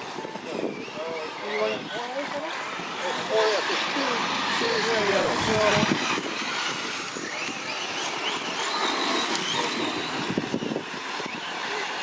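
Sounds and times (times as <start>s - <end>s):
steady rushing noise: 0.0s - 12.0s
vehicle engine whine: 0.0s - 12.0s.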